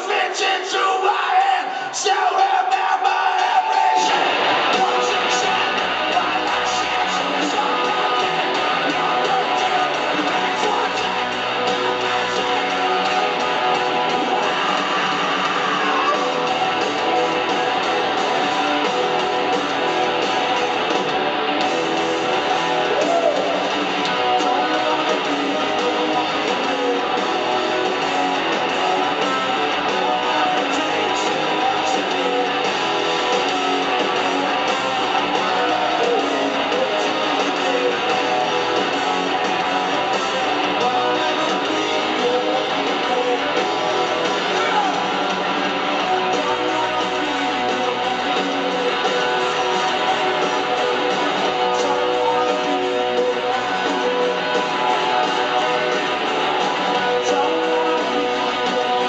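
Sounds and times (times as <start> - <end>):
live rock band playing: 3.4 - 59.0.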